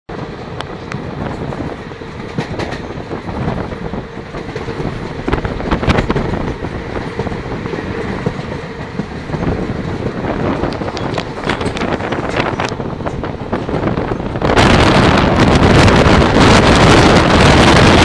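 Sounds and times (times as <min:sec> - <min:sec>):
train rumble and rushing air: 0:00.1 - 0:18.0
train wheels clacking on track: 0:00.1 - 0:18.0.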